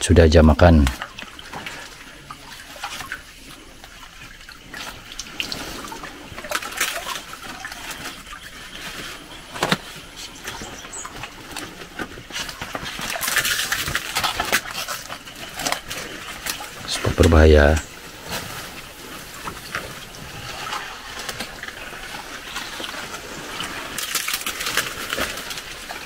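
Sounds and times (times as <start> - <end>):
paddle splashing water: 0.7 - 26.0.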